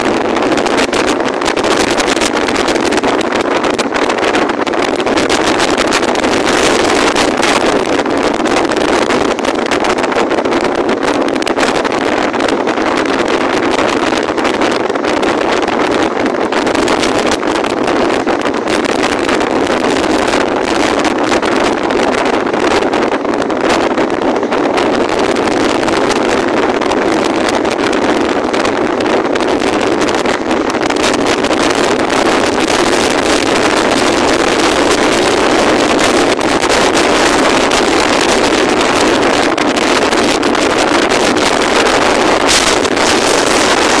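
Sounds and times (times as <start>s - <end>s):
strong wind buffeting microphone: 0.0s - 44.0s.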